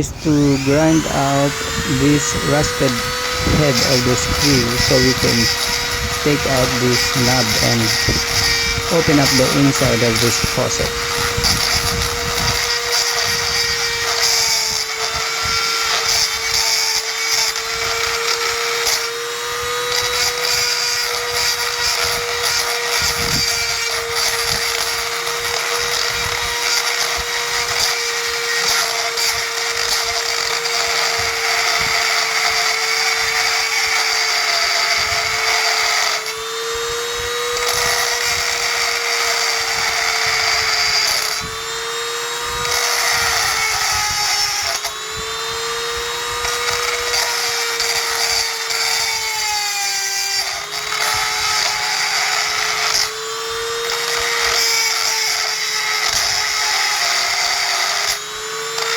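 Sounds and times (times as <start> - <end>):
power grinder grinding metal: 0.0 - 58.9.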